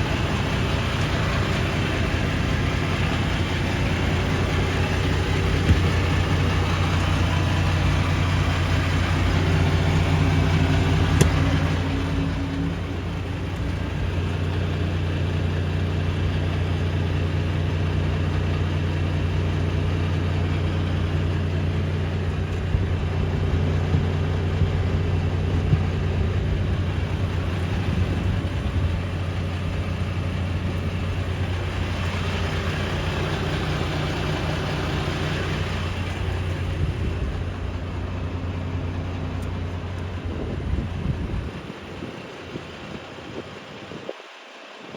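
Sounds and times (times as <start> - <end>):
diesel truck engine idling: 0.0 - 44.9
higher engine tone: 0.0 - 44.9.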